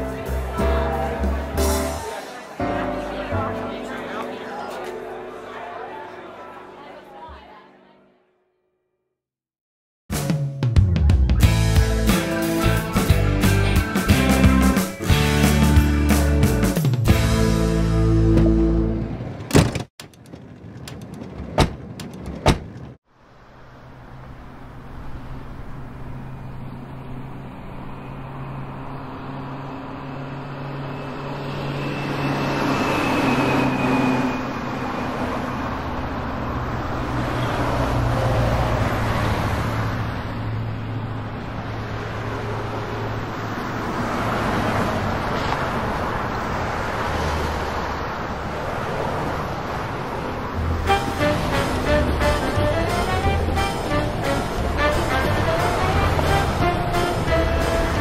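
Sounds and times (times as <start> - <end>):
vehicles passing: 0.0 - 8.0, 11.4 - 58.0.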